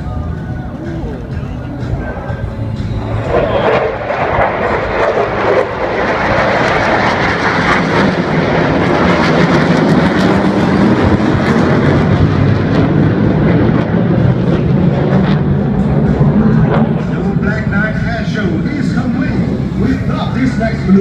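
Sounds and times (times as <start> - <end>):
fighter jet roar: 0.9 - 21.0.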